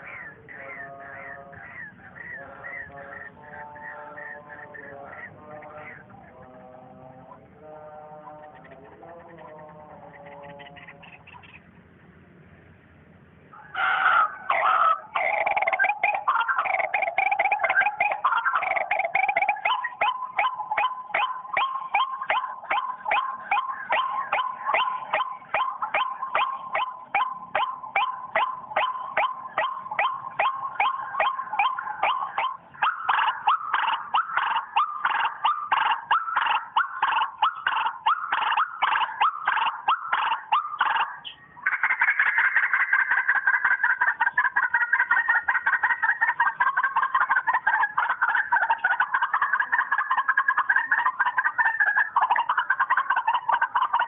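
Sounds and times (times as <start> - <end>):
waterhen calls: 0.0 - 7.5, 13.6 - 54.0.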